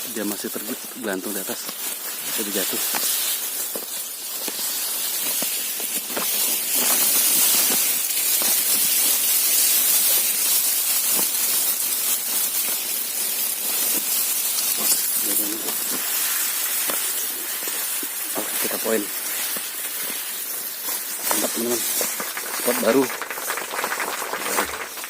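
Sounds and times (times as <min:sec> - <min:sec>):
high-pitched outdoor hiss: 0:00.0 - 0:25.0.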